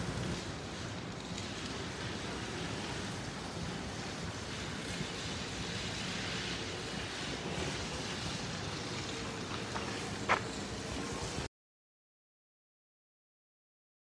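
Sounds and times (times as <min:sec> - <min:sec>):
tyres hissing on gritty ground: 0:00.0 - 0:11.5.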